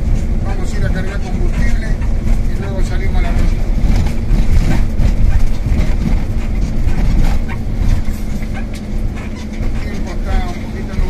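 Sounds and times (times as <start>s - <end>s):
low road rumble: 0.0s - 11.0s
van body rattling and knocking: 0.0s - 11.0s.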